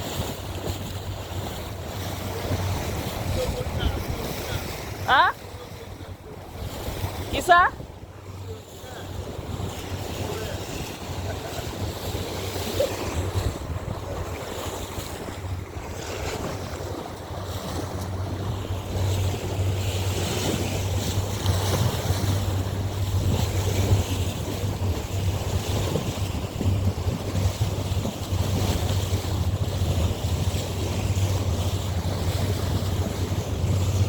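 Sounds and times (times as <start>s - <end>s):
boat motor hum: 0.0s - 34.0s
water rushing: 0.0s - 34.0s
wind buffeting microphone: 0.0s - 34.0s.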